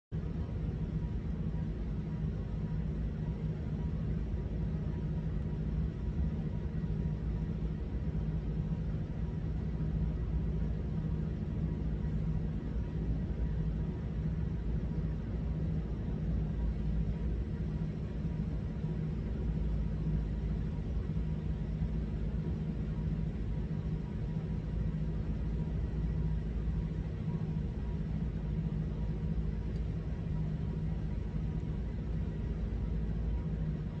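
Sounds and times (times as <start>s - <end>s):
low rumbling room hum: 0.1s - 34.0s.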